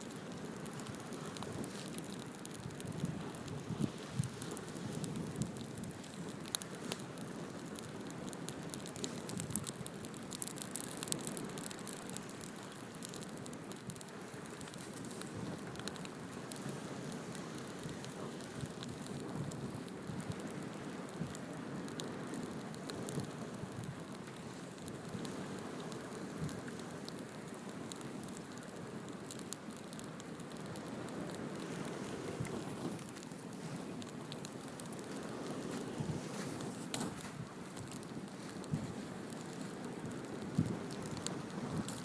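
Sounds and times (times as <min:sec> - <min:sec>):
fire crackling and popping: 0:00.0 - 0:42.0.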